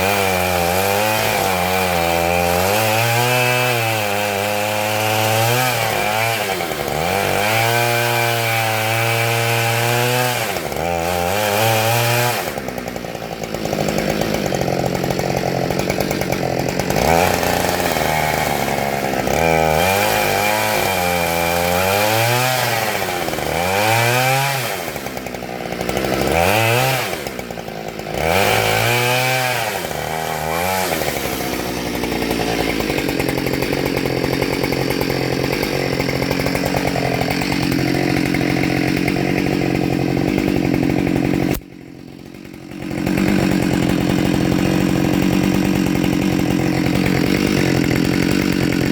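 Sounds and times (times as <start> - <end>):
chainsaw cutting log: 0.0 - 48.9.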